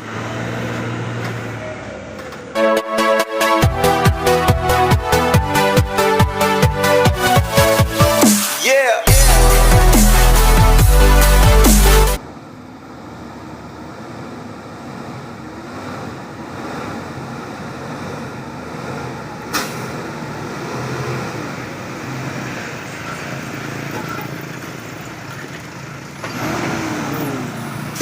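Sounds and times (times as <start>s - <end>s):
truck diesel engine running: 0.0s - 8.3s, 9.1s - 28.0s.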